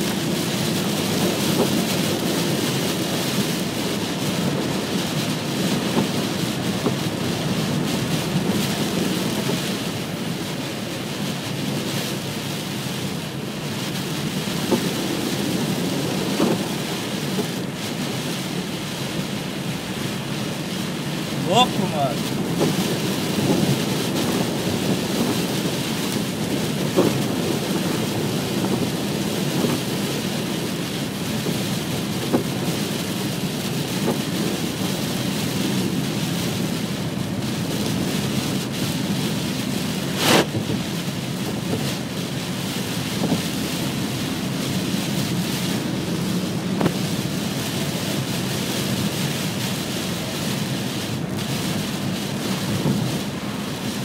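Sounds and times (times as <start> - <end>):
heavy rain on a car: 0.0 - 54.0
road spray: 0.0 - 54.0.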